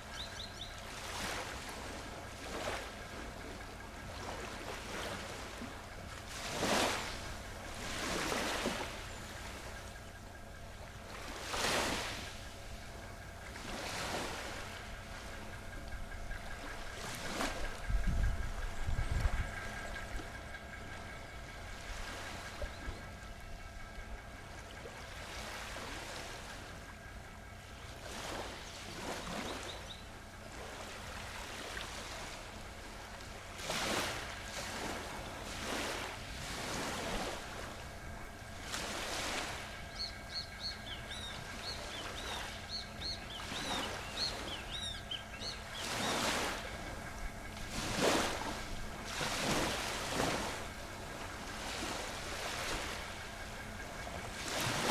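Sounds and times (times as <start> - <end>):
faint steady hum: 0.0 - 54.9
ocean waves breaking: 0.0 - 54.9.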